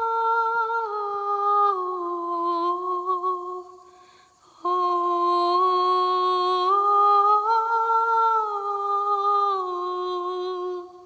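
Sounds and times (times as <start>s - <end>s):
woman singing wordless melody: 0.0s - 11.0s.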